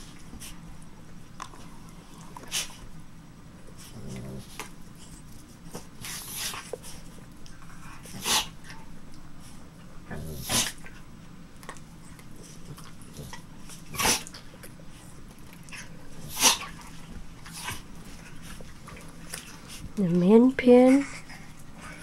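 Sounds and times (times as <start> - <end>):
dogs play-fighting noises: 0.0 - 22.0.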